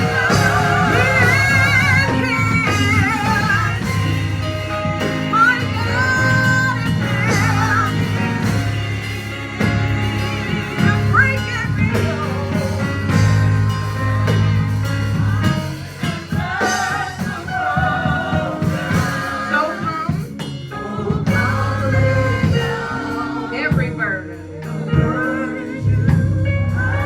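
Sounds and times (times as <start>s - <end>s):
keyboard chords: 0.0s - 27.0s
steady bass: 0.0s - 27.0s.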